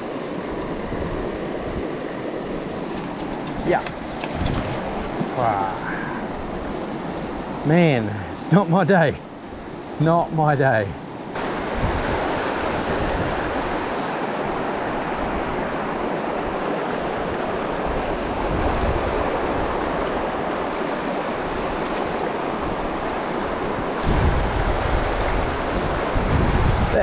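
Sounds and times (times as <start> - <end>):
river water rushing over boulders: 0.0 - 8.6, 11.0 - 27.0
wind buffeting microphone: 0.5 - 7.7, 11.4 - 27.0.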